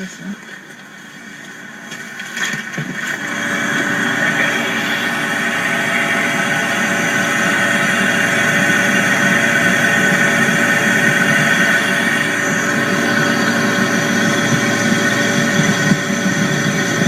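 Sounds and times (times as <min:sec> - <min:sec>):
refrigeration unit humming: 0:00.0 - 0:17.0.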